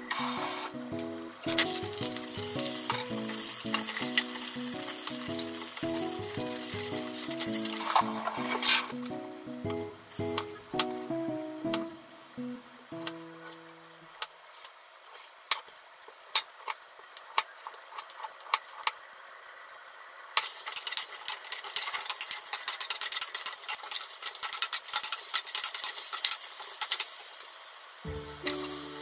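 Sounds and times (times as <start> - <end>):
eggplant sizzling in frying pan: 0.0 - 29.0.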